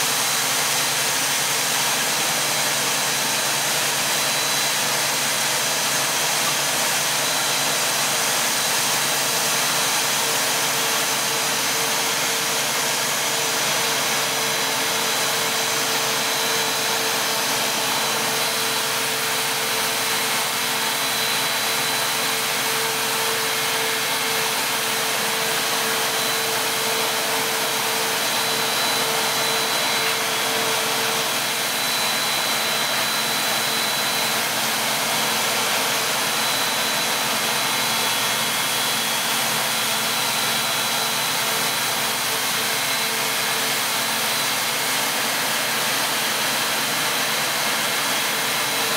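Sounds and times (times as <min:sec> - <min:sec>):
machine motors and blower whirring: 0:00.0 - 0:48.9
thin high whine: 0:03.4 - 0:48.9.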